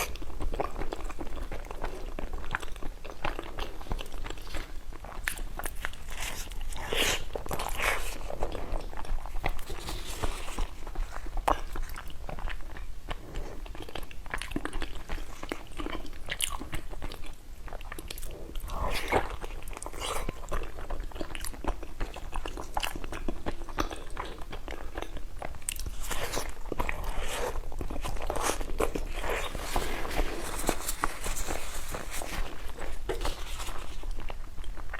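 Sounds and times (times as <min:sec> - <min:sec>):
person eating and chewing: 0:00.0 - 0:34.9.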